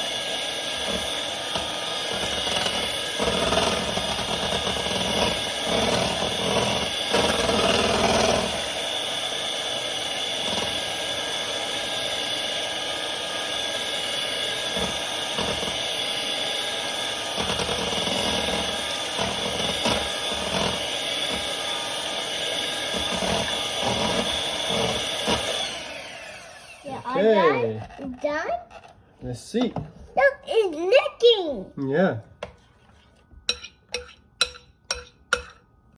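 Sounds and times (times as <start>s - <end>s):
electric hand mixer whirring: 0.0s - 28.9s.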